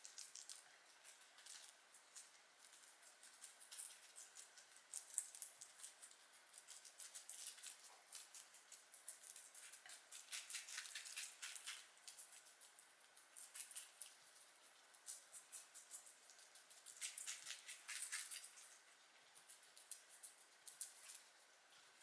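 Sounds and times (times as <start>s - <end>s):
guinea pigs crunching vegetables: 0.0s - 22.0s.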